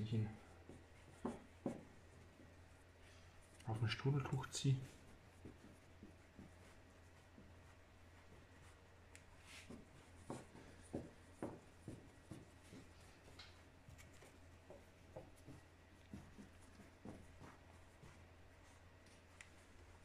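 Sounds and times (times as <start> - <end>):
rustling and soft taps of dough: 0.0 - 20.0
steady low hum: 0.0 - 20.0.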